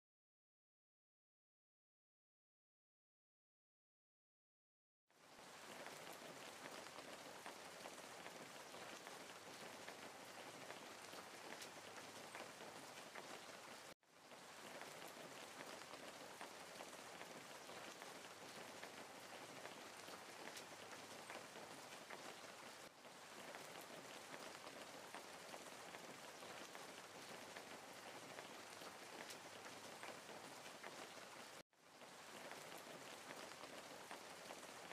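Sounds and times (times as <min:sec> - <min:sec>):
faint steady rain: 0:05.1 - 0:34.9.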